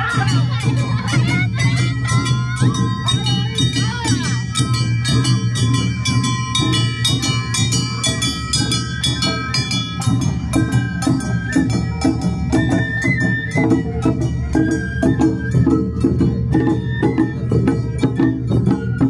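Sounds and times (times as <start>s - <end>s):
bamboo flutes: 0.0s - 19.0s
shamisen: 0.0s - 19.0s
taiko drums: 0.0s - 19.0s.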